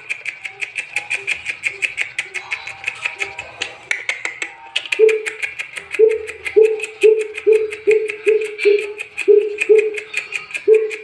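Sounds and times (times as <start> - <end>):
high ticking and chatter: 0.0 - 11.0.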